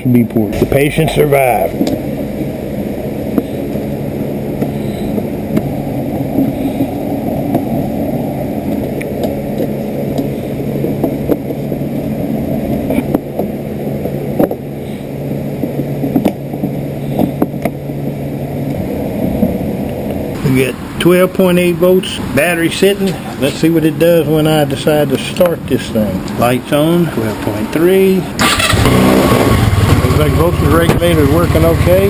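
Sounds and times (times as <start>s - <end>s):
low hum and rumble: 0.0s - 32.0s.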